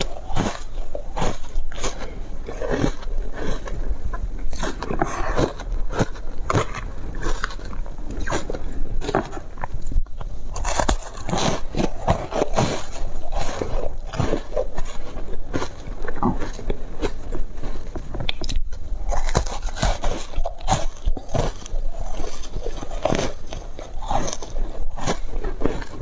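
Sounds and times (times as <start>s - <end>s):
crunching ice: 0.0s - 26.0s.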